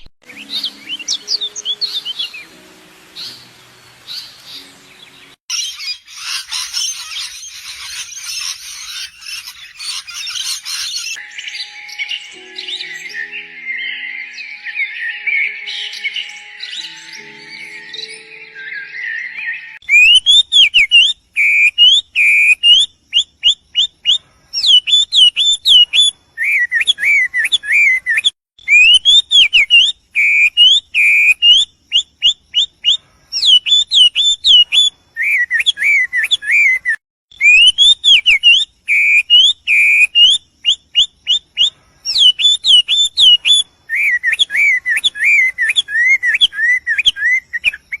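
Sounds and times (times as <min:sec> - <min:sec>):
songbird singing whistled phrases: 0:00.2 - 0:02.6, 0:04.1 - 0:48.0.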